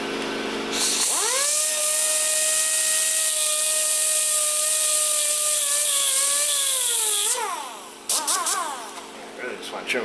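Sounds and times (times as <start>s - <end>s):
rotary cutoff wheel whining: 1.0s - 9.3s.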